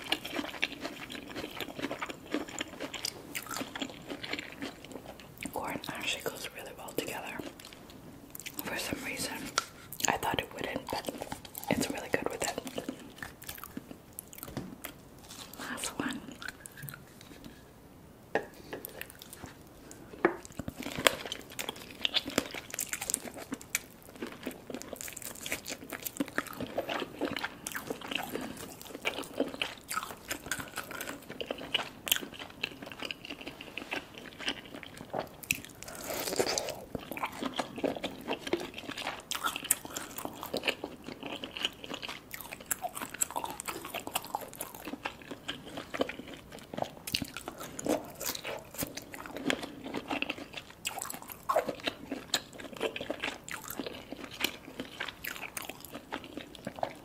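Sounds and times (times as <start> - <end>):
crunchy chewing: 0.0 - 17.6, 18.8 - 57.0.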